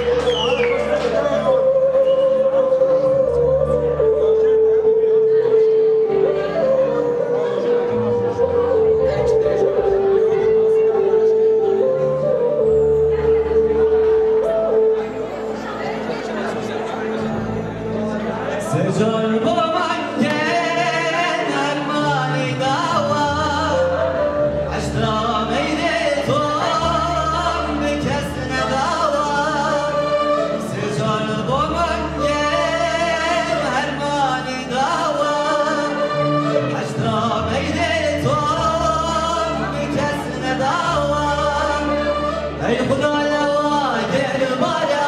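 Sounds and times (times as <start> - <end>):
electronic keyboard accompaniment: 0.0 - 45.0
man singing through a microphone: 0.0 - 45.0.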